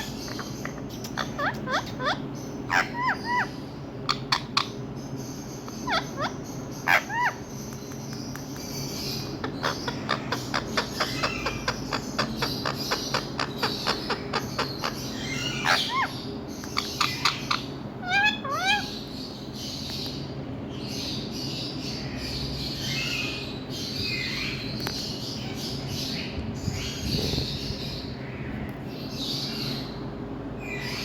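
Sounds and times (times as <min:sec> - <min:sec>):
parrot calling and chirping: 0:00.0 - 0:28.4
steady low hum: 0:00.0 - 0:31.0.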